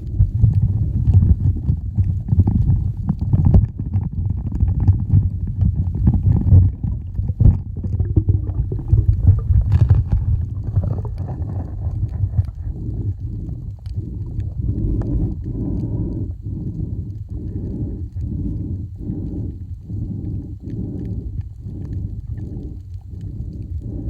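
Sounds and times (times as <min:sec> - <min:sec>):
water churning rumble: 0:00.0 - 0:24.0.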